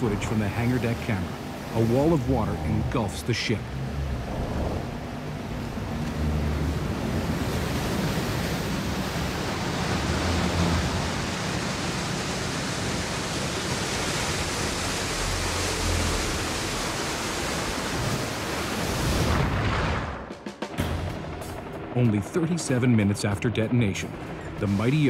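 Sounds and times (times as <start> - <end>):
water rushing: 0.0 - 19.7, 21.8 - 25.0.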